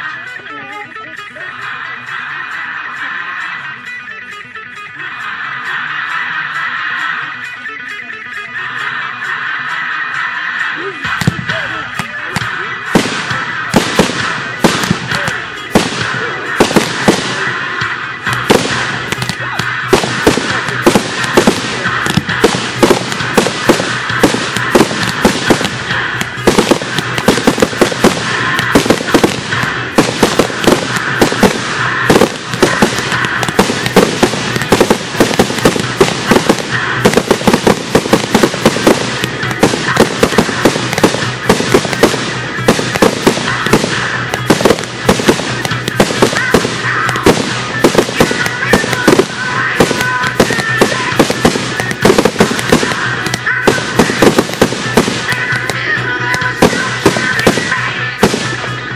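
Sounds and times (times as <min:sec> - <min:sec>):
fireworks bangs and crackles: 0:10.4 - 0:58.9.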